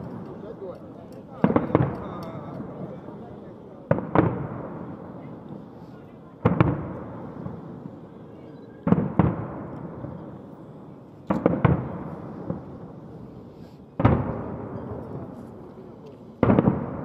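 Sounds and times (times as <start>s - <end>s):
firework bangs: 0.0s - 8.2s, 8.8s - 15.6s, 16.2s - 17.0s.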